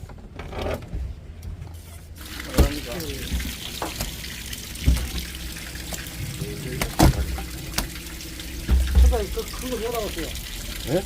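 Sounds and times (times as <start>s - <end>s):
water running and splashing: 2.1s - 11.0s.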